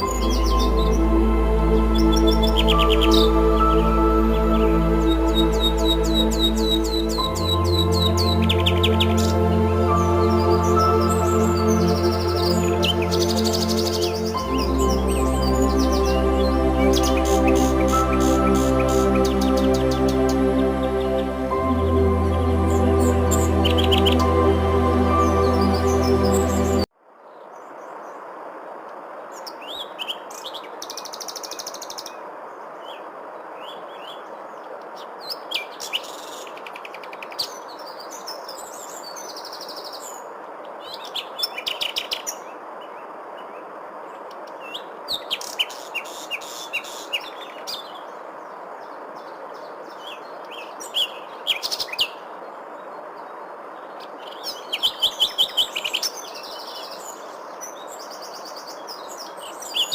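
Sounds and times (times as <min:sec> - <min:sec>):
songbirds chirping and trilling: 0:00.0 - 0:28.3, 0:29.3 - 0:59.9
steady background hiss: 0:00.0 - 0:59.9.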